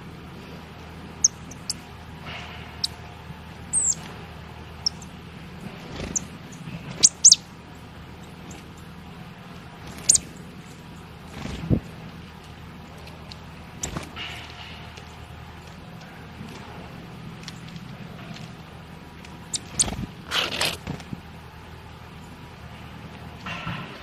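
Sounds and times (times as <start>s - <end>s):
birds chirping: 0.0s - 20.3s
faint low hum: 0.0s - 24.0s.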